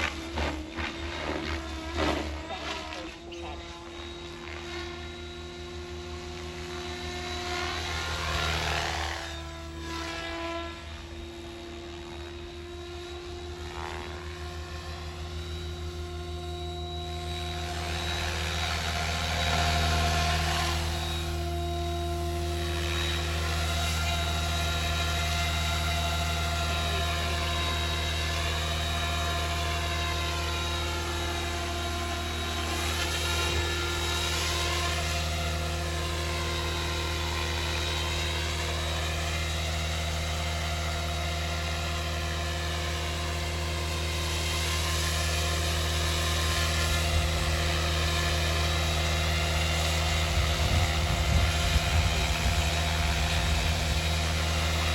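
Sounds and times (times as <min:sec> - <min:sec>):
model helicopter motor whine: 0:00.0 - 0:54.9.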